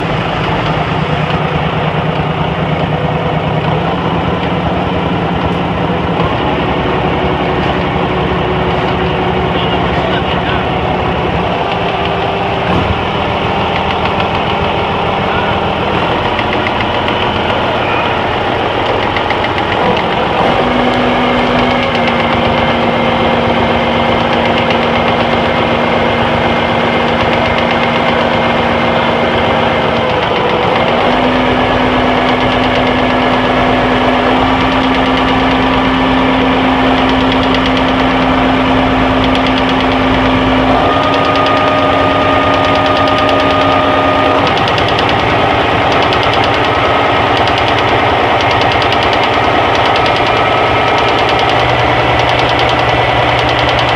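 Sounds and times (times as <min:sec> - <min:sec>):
diesel engine running abnormally: 0:00.0 - 0:53.9.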